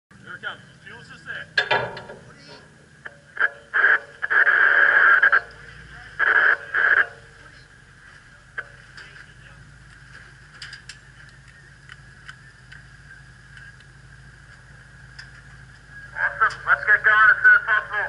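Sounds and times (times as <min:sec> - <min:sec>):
low hum: 0:00.1 - 0:18.0
garbled radio transmissions: 0:00.2 - 0:18.0.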